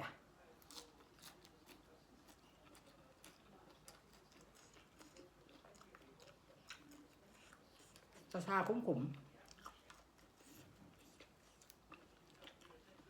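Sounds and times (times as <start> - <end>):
person chewing food: 0.6 - 8.3, 9.2 - 13.0.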